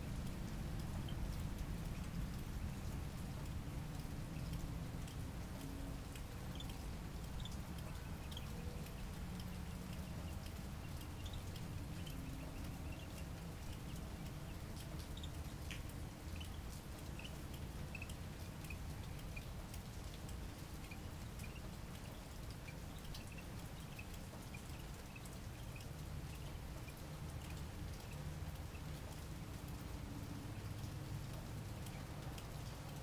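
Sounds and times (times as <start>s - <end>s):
low steady rumble: 0.0s - 33.0s
rain drips and patter: 0.0s - 33.0s.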